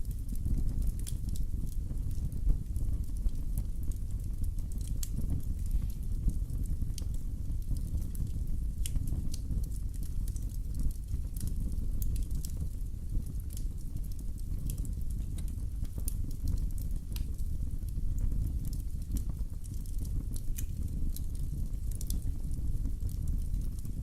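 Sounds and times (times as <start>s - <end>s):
fire low rumble: 0.0s - 24.0s
fire pops and crackles: 0.0s - 24.0s.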